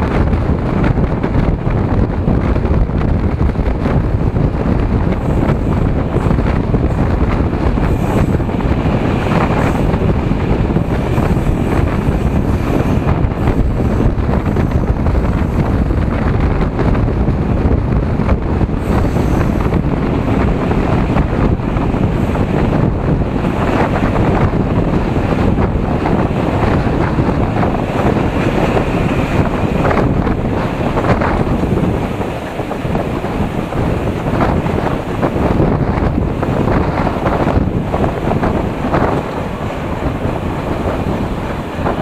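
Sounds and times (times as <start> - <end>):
train rumbling on rails: 0.0 - 42.0
wind buffeting microphone: 0.0 - 42.0.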